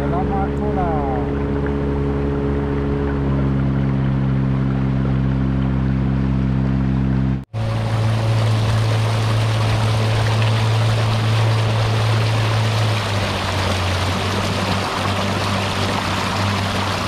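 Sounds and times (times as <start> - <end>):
outboard motor running: 0.0 - 17.0
water splashing along a hull: 0.0 - 17.0.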